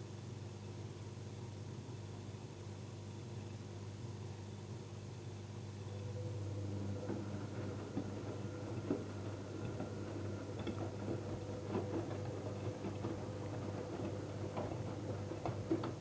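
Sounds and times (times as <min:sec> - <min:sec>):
washing machine motor hum: 0:00.9 - 0:16.0.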